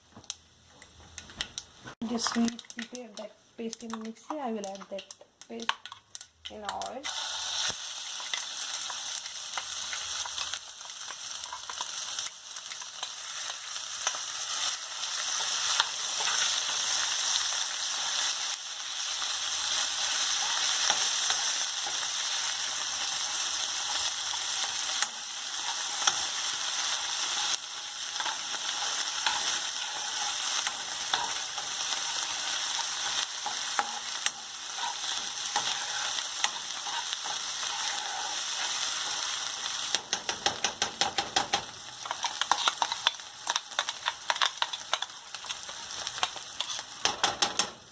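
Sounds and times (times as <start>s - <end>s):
paste sizzling in hot oil: 7.0s - 47.4s.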